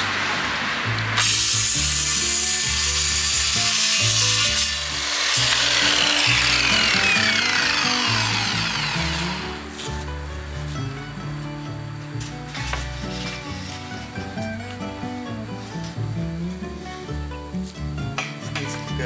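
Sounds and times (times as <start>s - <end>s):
circular saw cutting wood: 0.0s - 11.4s, 12.2s - 19.0s.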